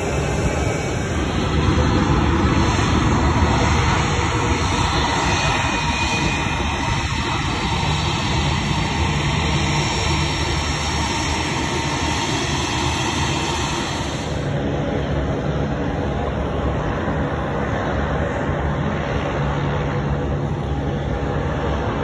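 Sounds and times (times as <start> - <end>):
jet engines taxiing: 0.0 - 22.0.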